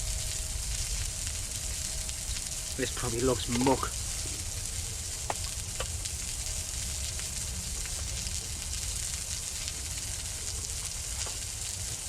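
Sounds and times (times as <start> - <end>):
fire crackling: 0.0 - 12.0
sizzling hiss over campfire: 0.0 - 12.0.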